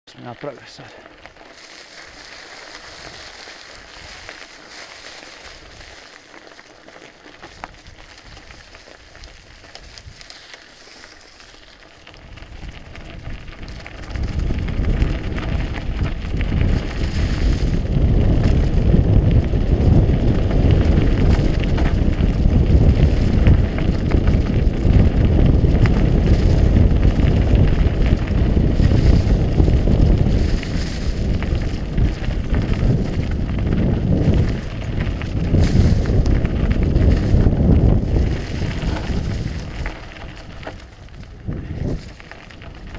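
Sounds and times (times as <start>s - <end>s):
bike tyres crackling over leaves: 0.1s - 42.9s
wind buffeting microphone: 2.1s - 6.1s, 7.4s - 10.4s, 12.2s - 42.9s.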